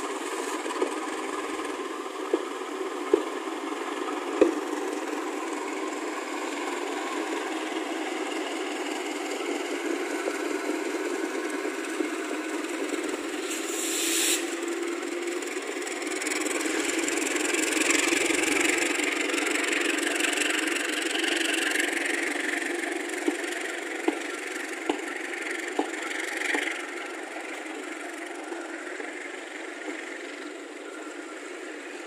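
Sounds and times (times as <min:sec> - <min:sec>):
train wheels rumbling on rail: 0:00.0 - 0:32.0
wheels clacking over rail joints: 0:00.0 - 0:32.0.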